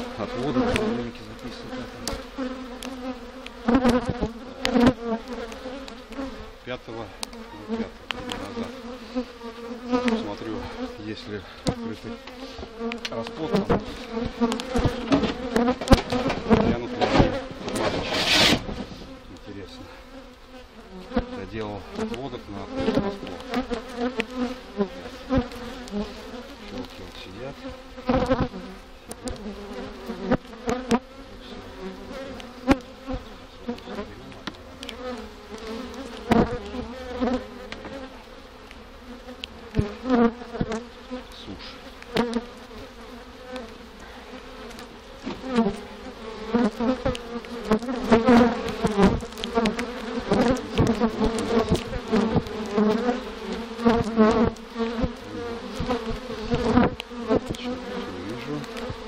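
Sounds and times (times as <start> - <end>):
honeybees humming: 0.0 - 59.0.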